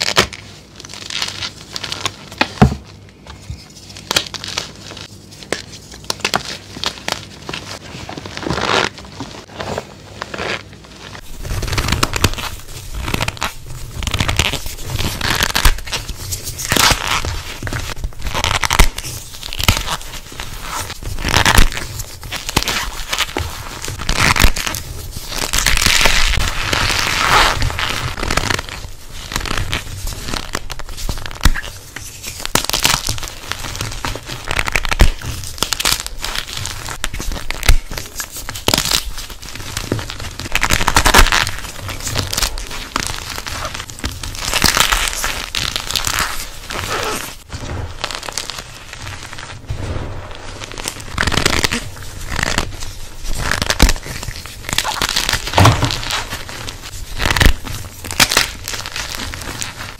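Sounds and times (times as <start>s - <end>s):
cornstarch squeaking and crunching: 10.2s - 49.6s, 50.3s - 59.9s.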